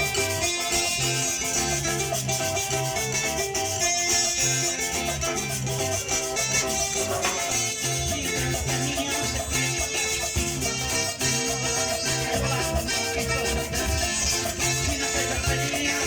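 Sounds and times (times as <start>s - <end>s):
plucked string instruments: 0.0s - 16.0s
shaken hand percussion rhythm: 0.0s - 16.0s.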